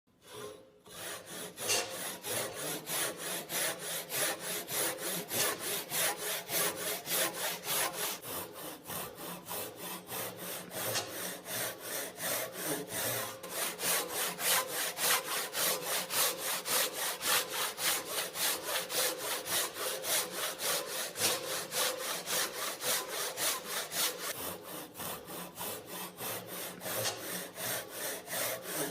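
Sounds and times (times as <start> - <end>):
hand saw cutting wood: 0.1 - 28.9.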